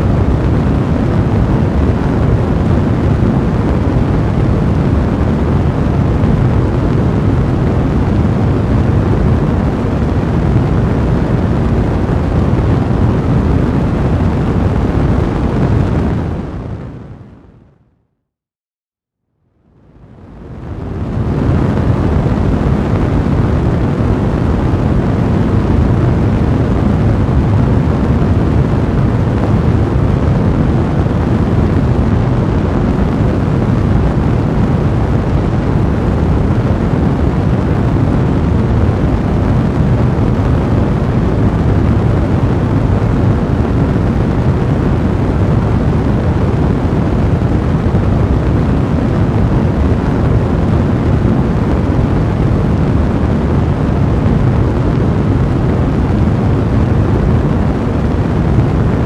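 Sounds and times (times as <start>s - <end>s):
fire roaring and crackling: 0.0s - 17.0s, 20.2s - 59.0s.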